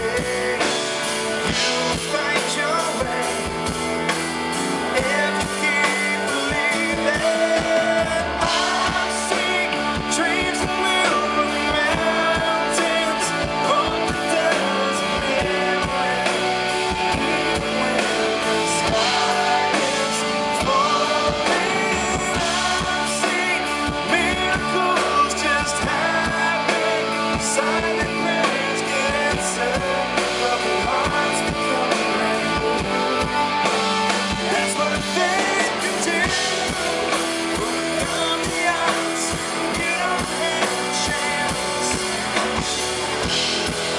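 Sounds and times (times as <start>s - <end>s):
live rock band playing: 0.0s - 43.9s
person singing: 0.0s - 43.9s.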